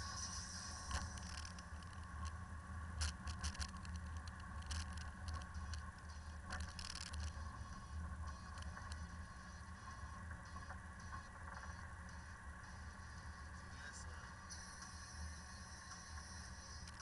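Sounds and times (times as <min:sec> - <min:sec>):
sharp clicks and rattles: 0:00.1 - 0:02.4, 0:03.0 - 0:17.0.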